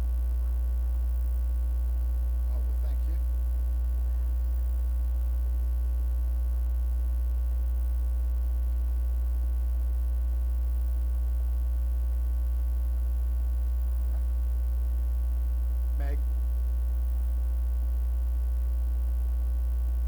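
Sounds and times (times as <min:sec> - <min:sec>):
loud low electrical hum: 0:00.0 - 0:20.0.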